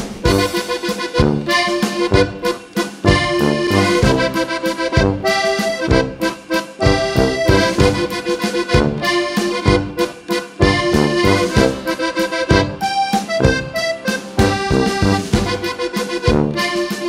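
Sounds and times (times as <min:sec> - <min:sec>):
instrumental music with beat: 0:00.0 - 0:17.0.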